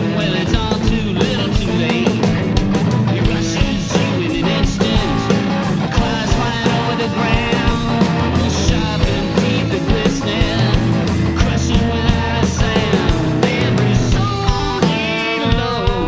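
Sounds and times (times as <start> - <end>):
drum kit and cymbals: 0.0 - 16.0
rock band playing live: 0.0 - 16.0.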